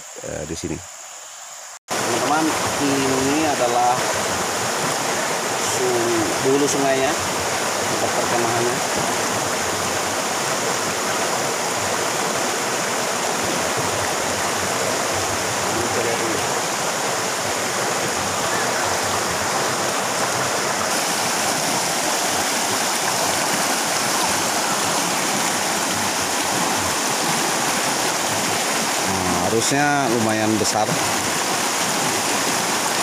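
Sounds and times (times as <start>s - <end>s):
river rushing over rocks: 1.9s - 33.0s.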